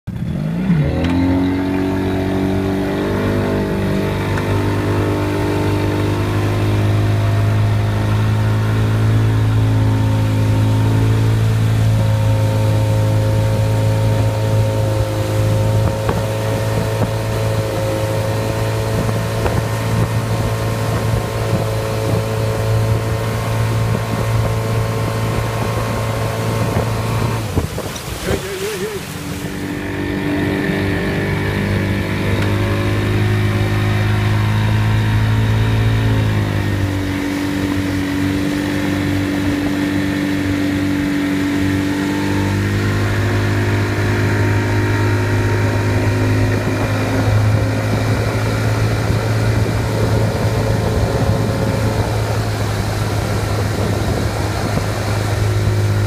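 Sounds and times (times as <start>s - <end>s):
wind: 0.0s - 56.0s
outboard motor running: 0.1s - 56.0s
rushing water: 0.1s - 56.0s.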